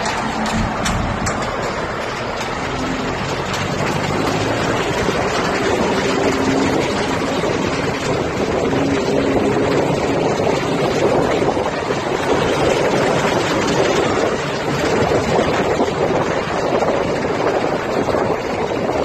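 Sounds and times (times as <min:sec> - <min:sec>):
low engine drone: 0:00.0 - 0:19.0
road and wind noise: 0:00.0 - 0:19.0.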